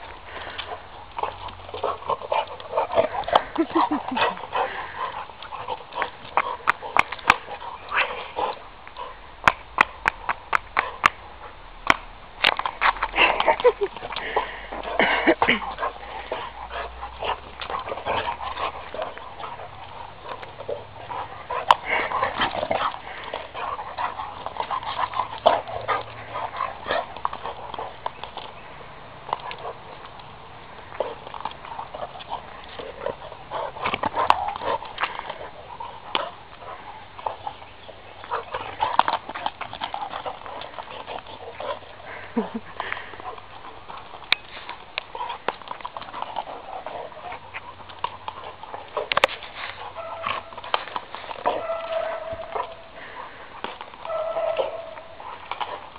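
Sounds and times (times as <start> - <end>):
ball and claws tapping on asphalt: 0.0 - 55.9.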